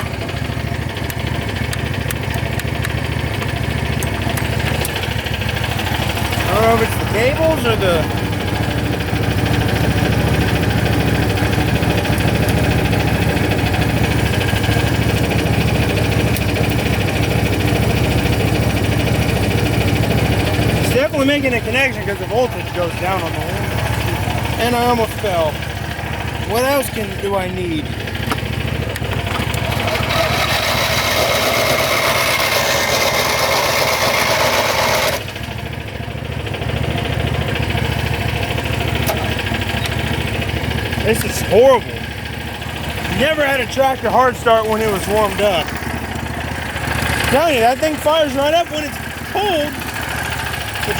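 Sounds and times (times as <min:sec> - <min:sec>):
starter motor cranking whine: 0:00.0 - 0:35.5, 0:37.2 - 0:50.9
small engine running: 0:00.0 - 0:50.9.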